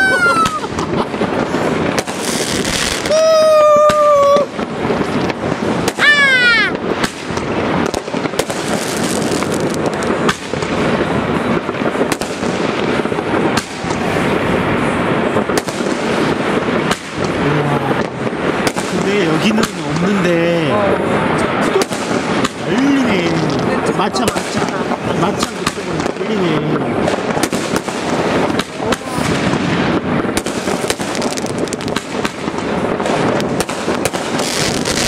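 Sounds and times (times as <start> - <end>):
fireworks crackling and banging: 0.0 - 35.0
whistling fireworks: 0.0 - 35.0.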